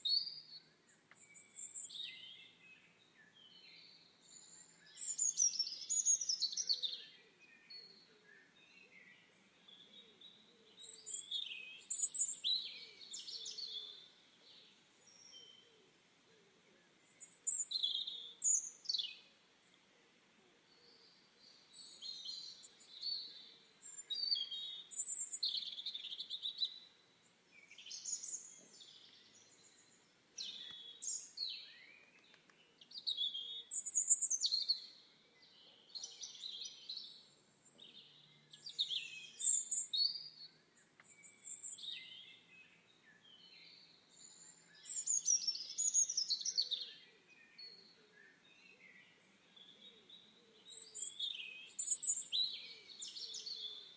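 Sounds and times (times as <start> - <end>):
songbirds singing and chirping: 0.0 - 53.9.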